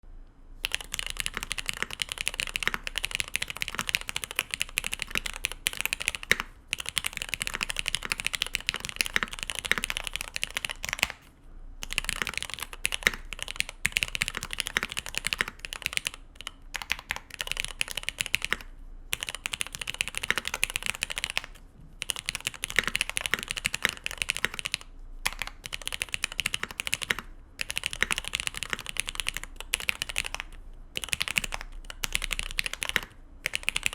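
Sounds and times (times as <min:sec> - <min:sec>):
fast typing on mechanical keyboard: 0:00.6 - 0:33.9.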